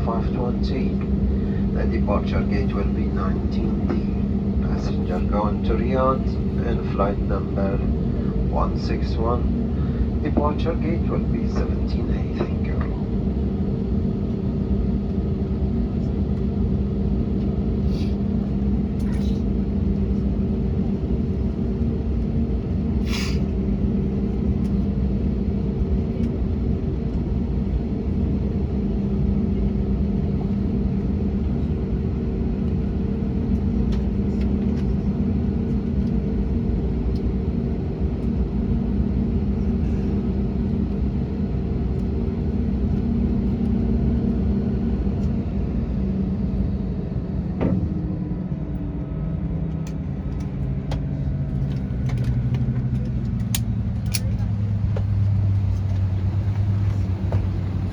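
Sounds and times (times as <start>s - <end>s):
aircraft cabin drone: 0.0s - 57.9s
engine and air-conditioning hum: 0.0s - 57.9s.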